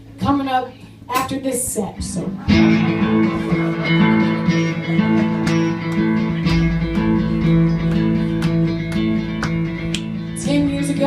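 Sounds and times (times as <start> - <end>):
guitars strumming: 1.1 - 11.0.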